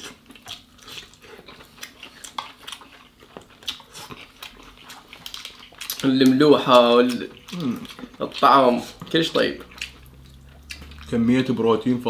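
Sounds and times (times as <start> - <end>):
mouth sounds of eating: 0.0 - 12.0.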